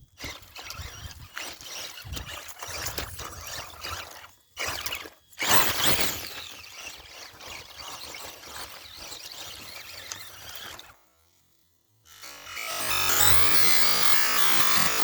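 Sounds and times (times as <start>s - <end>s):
electric motor whining: 0.2s - 10.9s, 12.1s - 15.0s.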